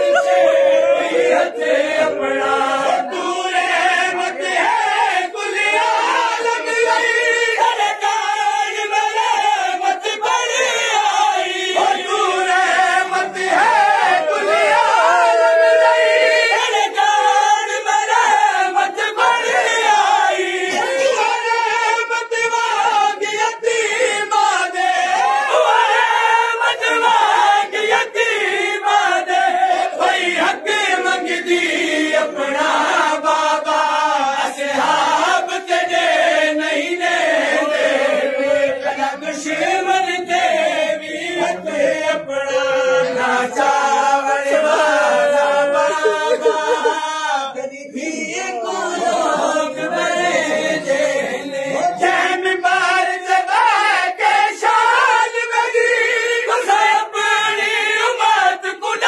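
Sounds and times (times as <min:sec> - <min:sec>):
man reciting into a microphone: 0:00.0 - 0:59.0
men chanting: 0:00.0 - 0:59.0.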